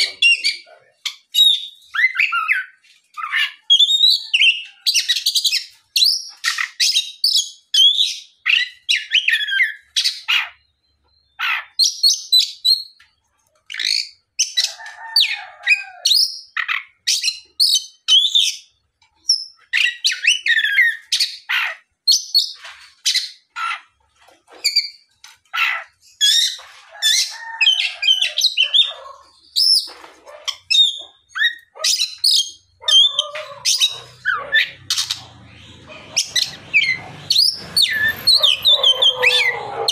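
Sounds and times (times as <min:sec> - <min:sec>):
magpie-robin singing: 0:00.0 - 0:13.0, 0:15.7 - 0:23.9, 0:24.6 - 0:39.9.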